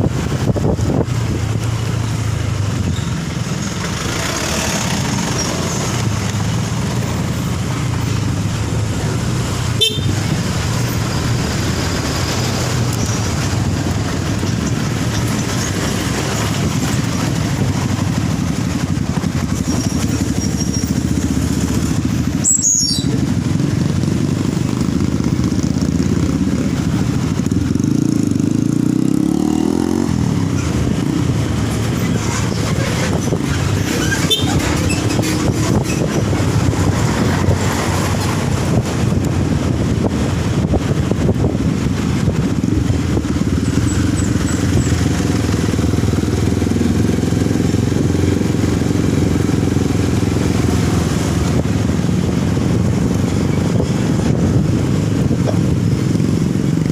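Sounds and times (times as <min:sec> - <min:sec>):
road noise: 0:00.0 - 0:56.9
vehicle engine running: 0:00.0 - 0:56.9.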